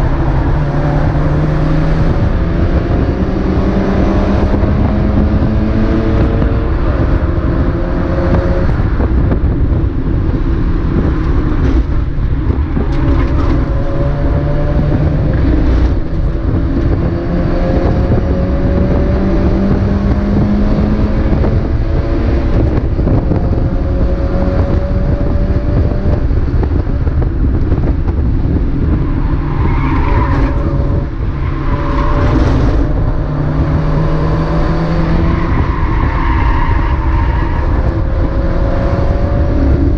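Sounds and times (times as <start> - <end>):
race car engine through gears: 0.0 - 39.9.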